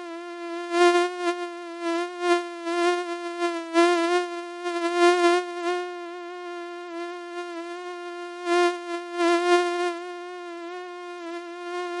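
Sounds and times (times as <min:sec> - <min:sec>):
mosquito buzzing: 0:00.0 - 0:12.0.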